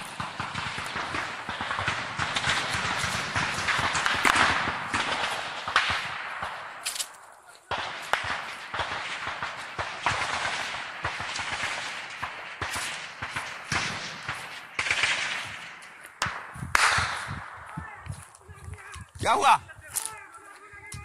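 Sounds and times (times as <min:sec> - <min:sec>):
gunshots cracking: 0:00.0 - 0:20.2.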